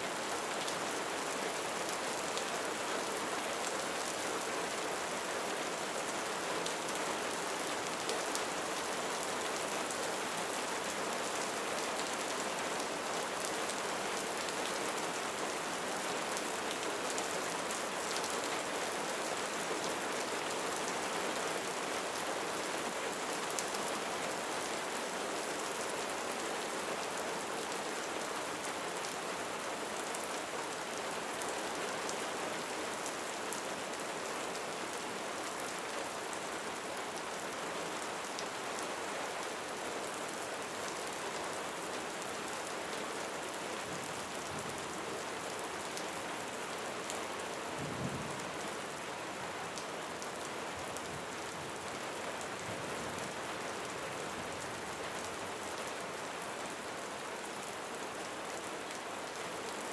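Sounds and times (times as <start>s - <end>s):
rain on a roof: 0.0s - 59.9s.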